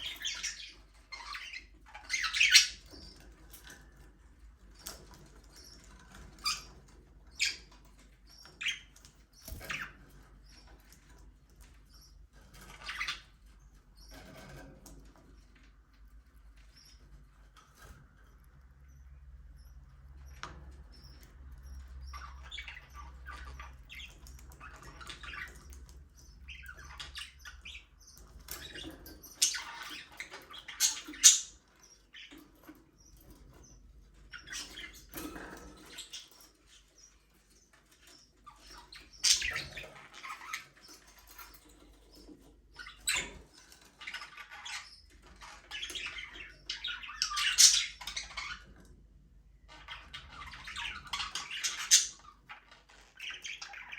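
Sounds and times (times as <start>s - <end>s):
budgerigars chirping: 0.0s - 14.7s, 16.4s - 48.8s, 49.6s - 53.9s.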